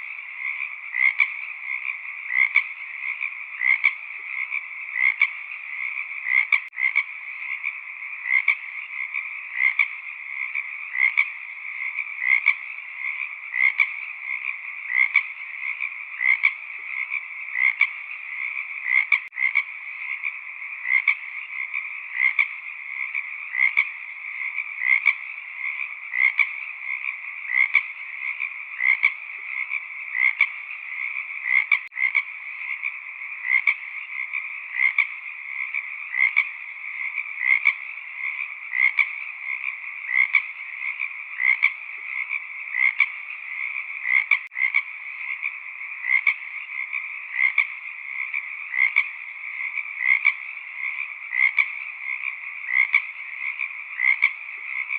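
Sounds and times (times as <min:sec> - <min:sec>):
frogs calling: 0:00.0 - 0:54.9.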